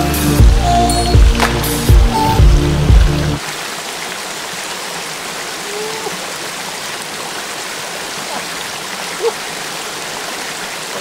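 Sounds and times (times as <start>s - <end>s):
stream splashing over rocks: 1.2s - 11.0s.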